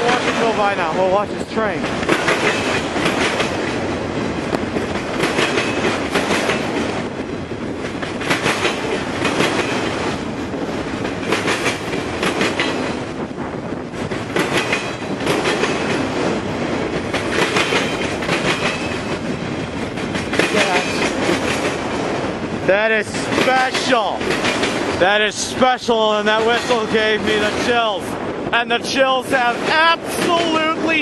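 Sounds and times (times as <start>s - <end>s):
train wheels clacking over rail joints: 0.0s - 13.2s, 13.9s - 22.3s, 23.0s - 28.0s, 29.2s - 31.0s
train rumble: 0.0s - 31.0s.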